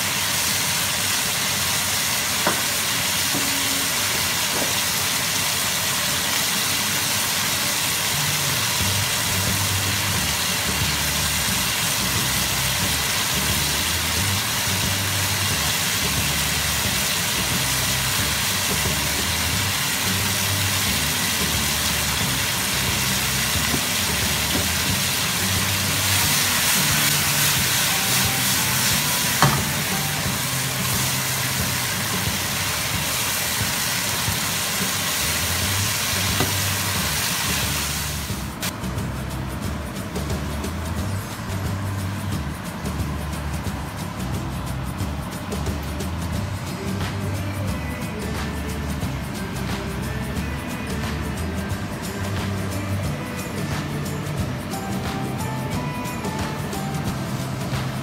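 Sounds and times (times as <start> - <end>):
food sizzling in wok: 0.0 - 58.0.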